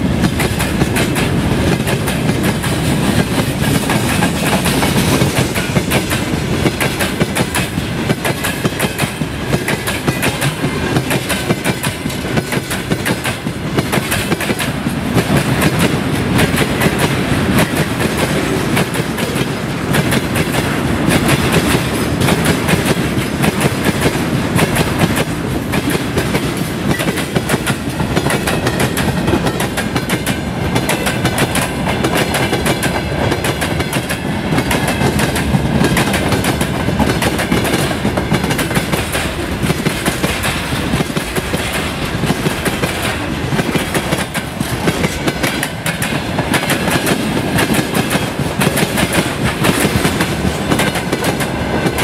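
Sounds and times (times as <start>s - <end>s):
freight train rumble: 0.0s - 52.0s
steel wheels clattering on rails: 0.0s - 52.0s.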